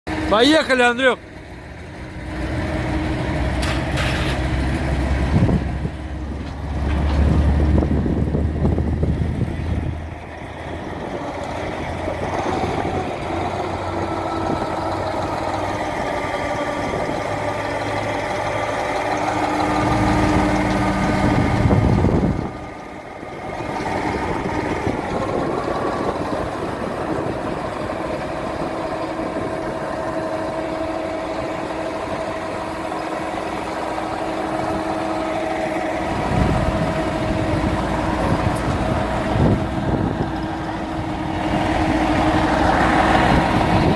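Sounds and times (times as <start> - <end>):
vehicle engine running: 0.1 - 43.9.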